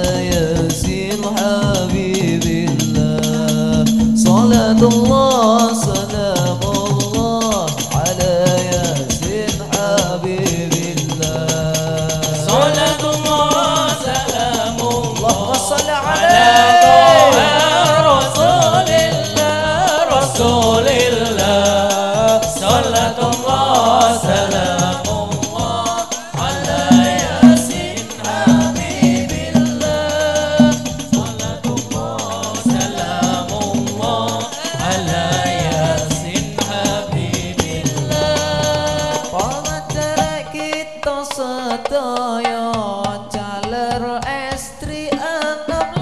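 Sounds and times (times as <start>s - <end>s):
frame drums and bass drum: 0.0s - 41.0s
voices singing a devotional song: 0.0s - 46.0s.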